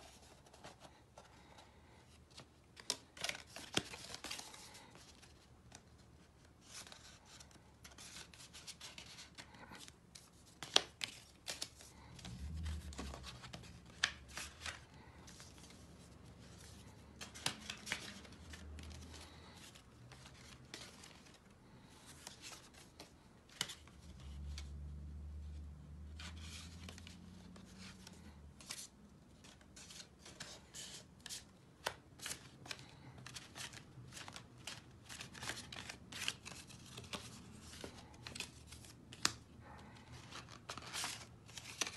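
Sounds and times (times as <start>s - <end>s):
cardstock rustling: 0.0s - 24.7s, 26.2s - 41.9s.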